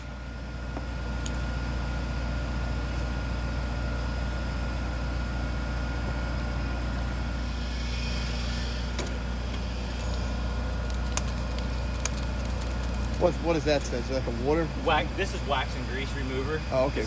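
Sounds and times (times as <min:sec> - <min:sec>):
machine droning: 0:00.0 - 0:17.0.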